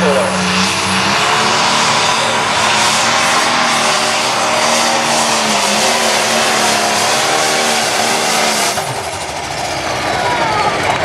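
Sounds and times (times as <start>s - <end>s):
diesel engine at full power: 0.0s - 11.0s.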